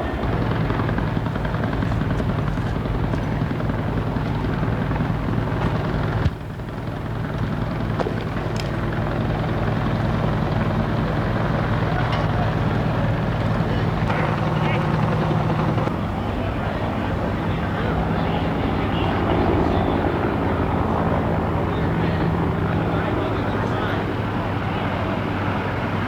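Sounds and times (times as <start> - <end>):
helicopter rotor and engine drone: 0.0 - 26.0.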